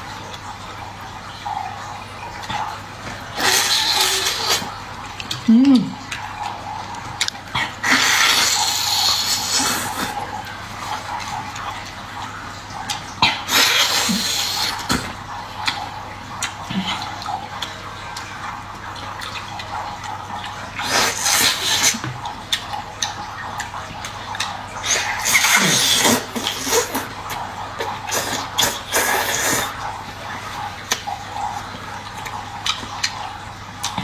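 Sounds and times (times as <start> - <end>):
water splashing and running: 0.0 - 34.0.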